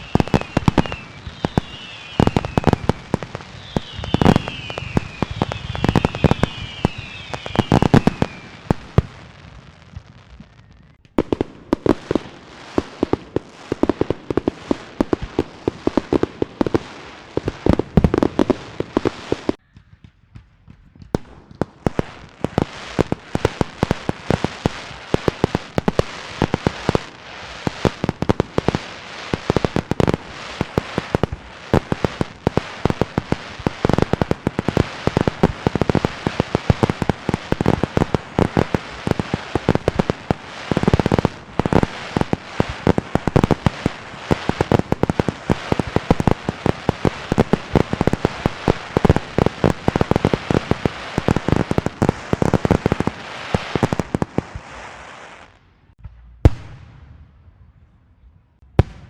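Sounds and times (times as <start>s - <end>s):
fireworks and firecrackers cracking: 0.0s - 57.2s.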